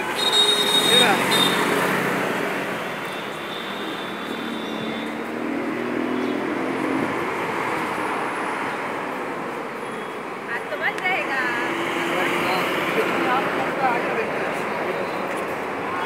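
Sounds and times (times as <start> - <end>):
passing vehicles: 0.0 - 16.0.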